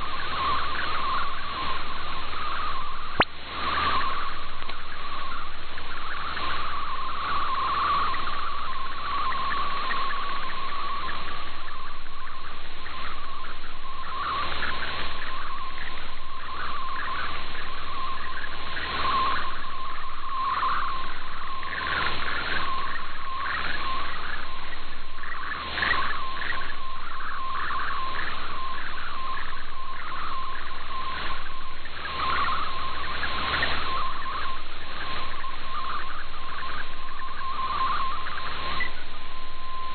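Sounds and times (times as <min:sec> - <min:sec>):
radio band noise: 0:00.0 - 0:39.9
warbling chirping radio tone: 0:00.0 - 0:39.9.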